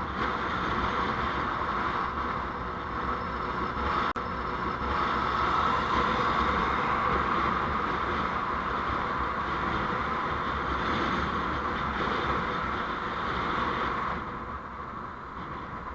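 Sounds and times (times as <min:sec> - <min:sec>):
road and wind hiss: 0:00.0 - 0:15.9.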